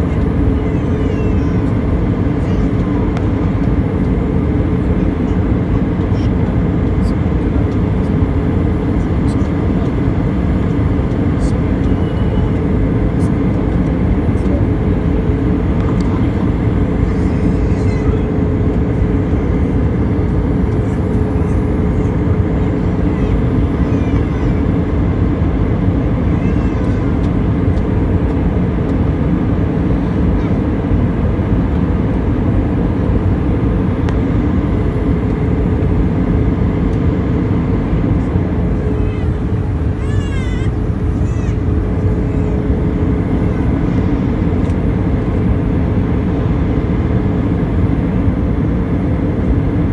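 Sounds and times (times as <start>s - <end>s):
airliner cabin noise: 0.0s - 49.9s.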